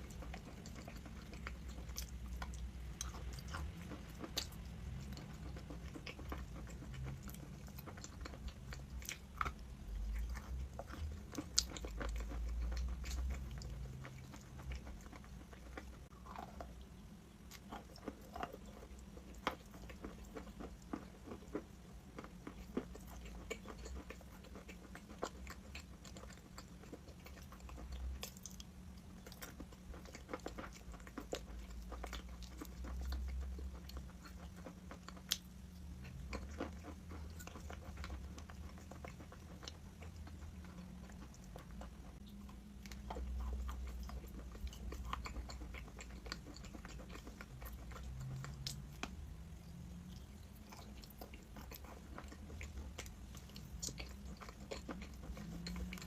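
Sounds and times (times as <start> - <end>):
person chewing crunchy chalk: 0.0 - 56.0.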